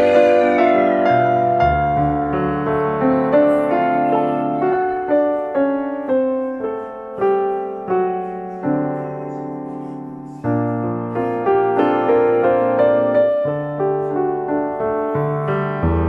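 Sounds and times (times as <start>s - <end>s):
slow gentle piano melody: 0.0s - 16.0s.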